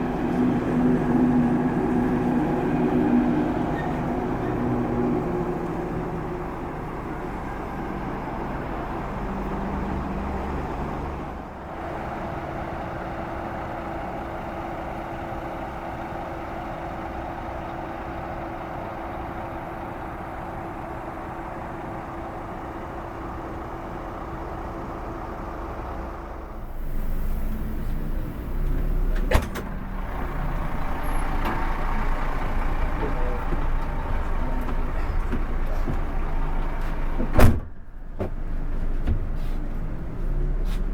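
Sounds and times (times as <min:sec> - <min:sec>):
bus engine and road rumble: 0:00.0 - 0:40.9.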